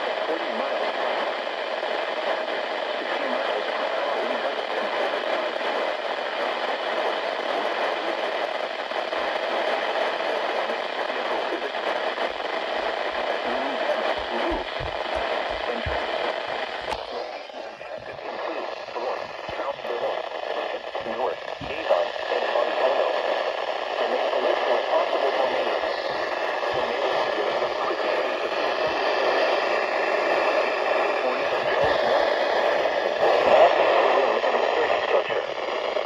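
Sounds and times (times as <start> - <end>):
radio static hissing: 0.0 - 36.0.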